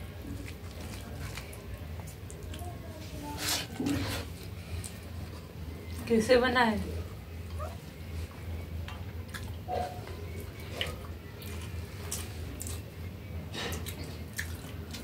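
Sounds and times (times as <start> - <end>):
chewing: 0.0 - 6.0, 7.4 - 15.0.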